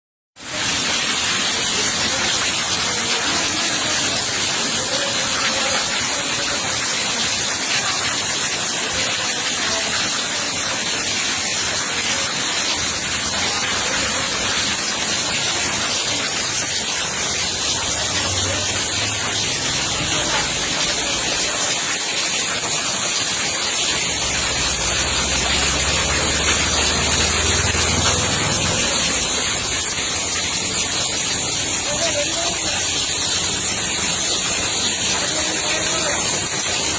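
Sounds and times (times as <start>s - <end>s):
rushing rainwater: 0.0s - 36.9s
heavy rain: 0.4s - 36.9s.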